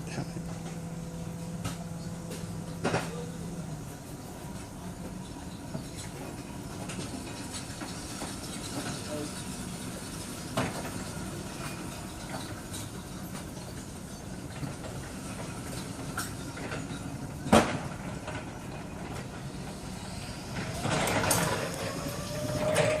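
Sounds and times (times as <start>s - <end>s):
electric reach truck humming: 0.0s - 23.0s.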